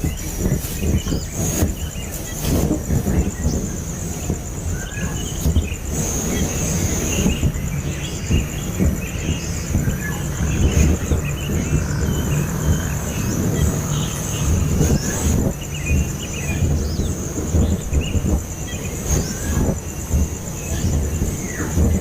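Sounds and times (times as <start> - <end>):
loud low rumbling noise: 0.0 - 22.0
nestling bird chirps: 0.0 - 22.0.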